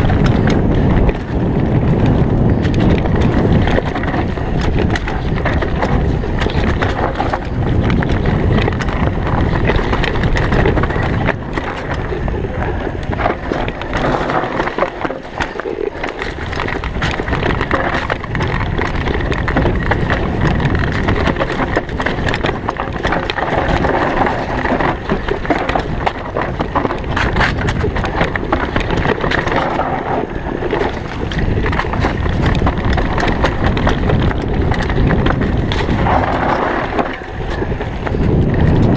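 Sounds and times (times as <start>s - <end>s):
bike rattling and knocking: 0.0s - 38.9s
bike tyres rolling over dirt and leaves: 0.0s - 38.9s
wind buffeting microphone: 0.0s - 38.9s.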